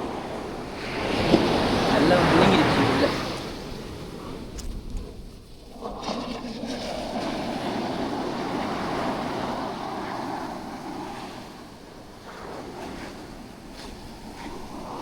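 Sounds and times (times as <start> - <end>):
sea wave washing in: 0.0 - 15.0.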